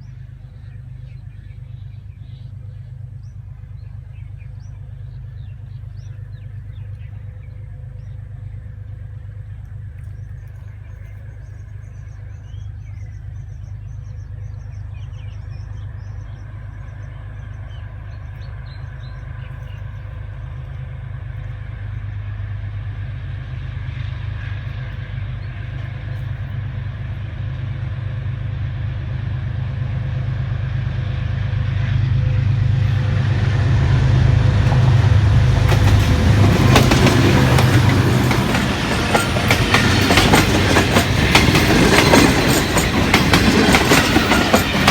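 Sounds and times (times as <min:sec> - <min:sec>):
diesel locomotive engine drone: 0:00.0 - 0:44.9
train on rails: 0:00.0 - 0:44.9.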